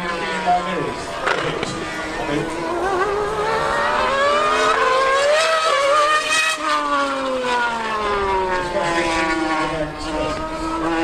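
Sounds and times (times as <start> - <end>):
racing engine revving past: 0.0 - 11.0.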